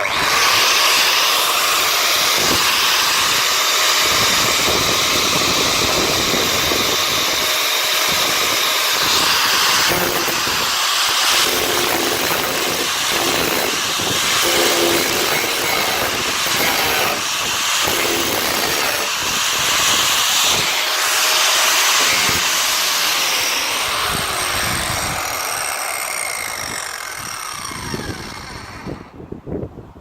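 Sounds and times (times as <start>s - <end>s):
angle grinder grinding steel: 0.0s - 29.2s.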